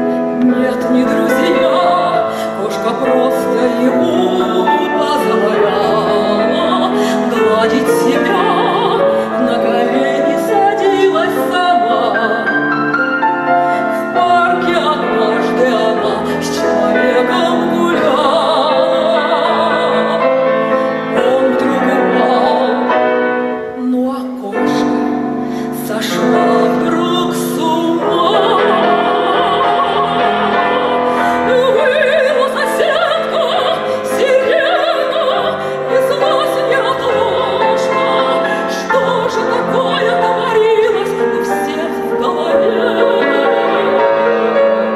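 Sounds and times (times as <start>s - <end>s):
grand piano: 0.0s - 44.9s
woman singing operatically: 0.1s - 13.0s, 13.6s - 44.9s.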